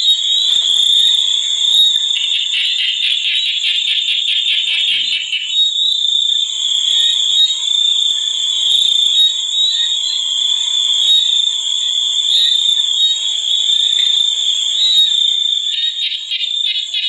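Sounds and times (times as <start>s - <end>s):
shrill insect chorus: 0.0s - 17.0s.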